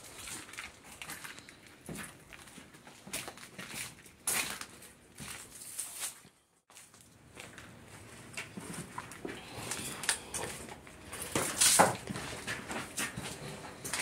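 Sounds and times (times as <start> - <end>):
footsteps crunching over debris: 0.0 - 14.0.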